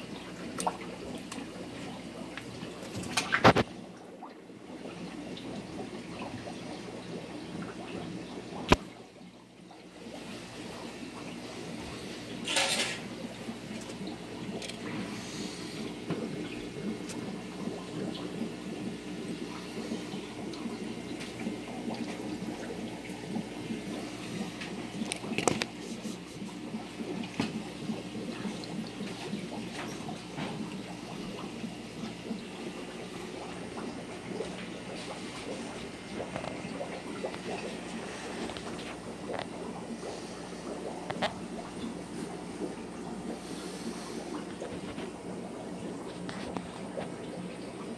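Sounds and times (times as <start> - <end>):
water trickling and splashing: 0.0 - 47.9.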